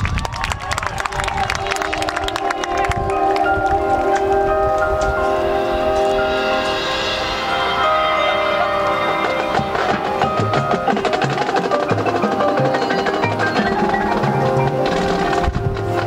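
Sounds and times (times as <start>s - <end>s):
marching band playing: 1.5s - 16.0s
fast percussion strokes: 1.8s - 16.0s.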